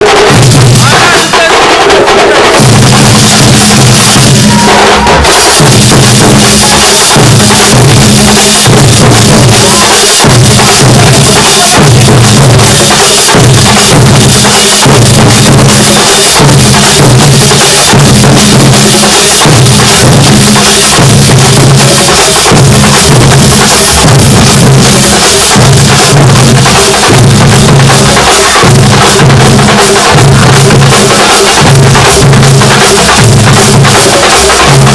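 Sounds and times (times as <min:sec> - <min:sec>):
percussion band drumming: 0:00.0 - 0:34.9.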